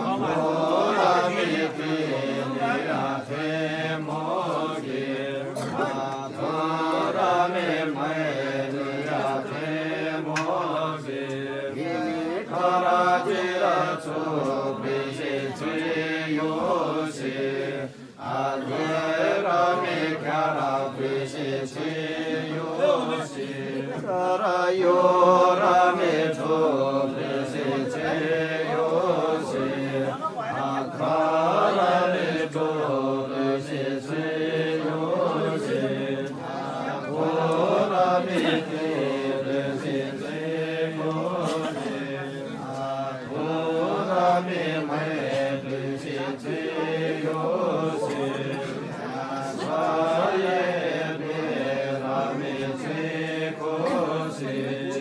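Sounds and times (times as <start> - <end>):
ritual chanting: 0.0 - 55.0.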